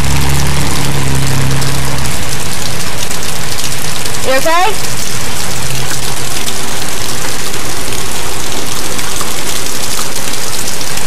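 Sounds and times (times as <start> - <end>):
heavy rain hissing: 0.0 - 9.8.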